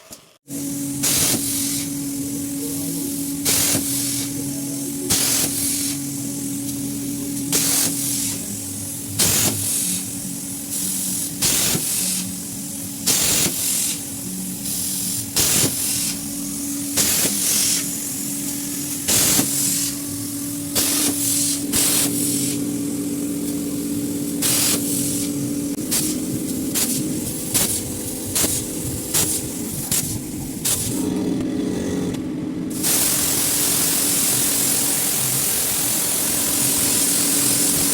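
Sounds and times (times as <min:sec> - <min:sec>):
gas hissing blasts: 0:00.0 - 0:37.9
steady machine hum: 0:00.0 - 0:37.9.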